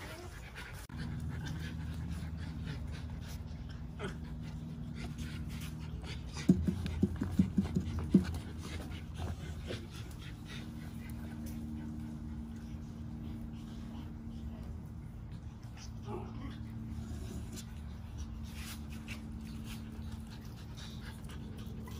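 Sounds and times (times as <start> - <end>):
puppy panting: 0.0 - 21.9
steady low hum: 0.0 - 21.9.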